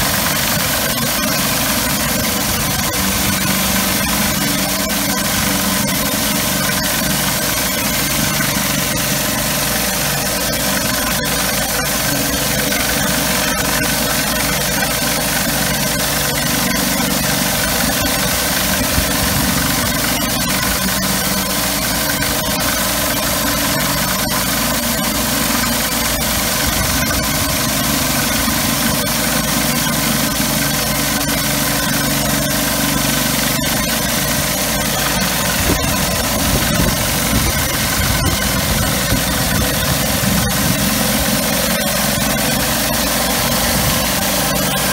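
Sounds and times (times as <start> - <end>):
pressure washer engine hum: 0.0 - 44.9.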